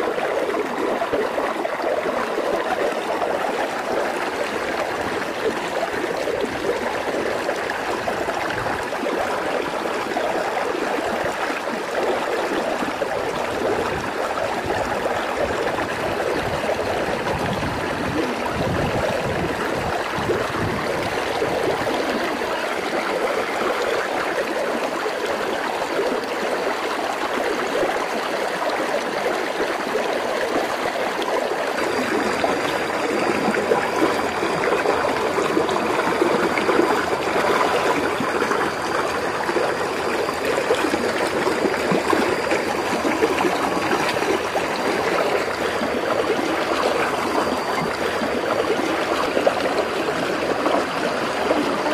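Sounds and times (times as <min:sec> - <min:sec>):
stream babbling over stones: 0:00.0 - 0:51.9.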